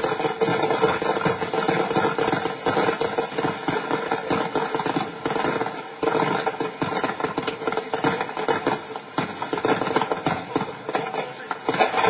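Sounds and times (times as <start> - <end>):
crackling and popping explosions: 0.0 - 12.0.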